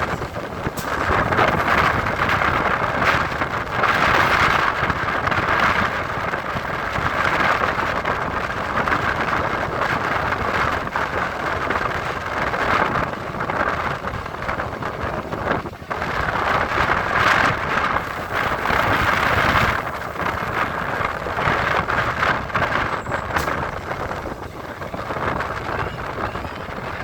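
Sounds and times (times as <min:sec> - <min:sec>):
train wheels clattering on rails: 0:00.0 - 0:27.0.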